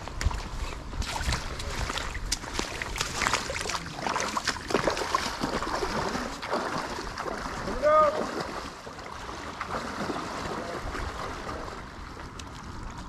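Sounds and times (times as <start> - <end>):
river water splashing: 0.0 - 13.0
wind rumble on microphone: 0.0 - 13.0.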